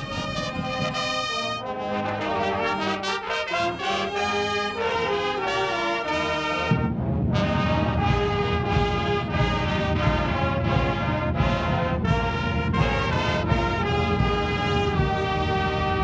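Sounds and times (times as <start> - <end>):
brass band playing slow chords: 0.0 - 16.0.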